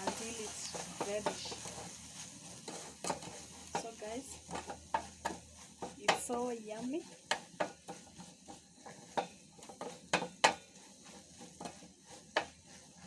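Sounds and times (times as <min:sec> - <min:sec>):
spoon scraping a pan: 0:00.0 - 0:13.0.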